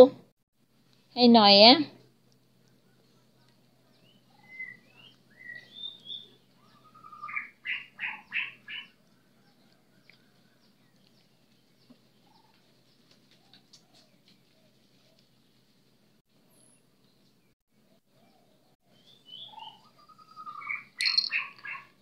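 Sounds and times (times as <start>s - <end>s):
birds chirping: 2.3s - 15.7s, 16.4s - 22.0s.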